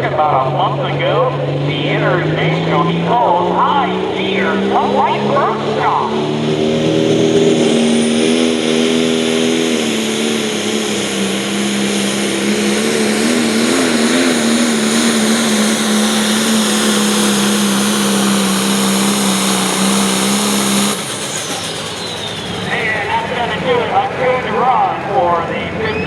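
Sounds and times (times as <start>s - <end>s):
diesel tractor engine at full throttle: 0.0s - 26.0s.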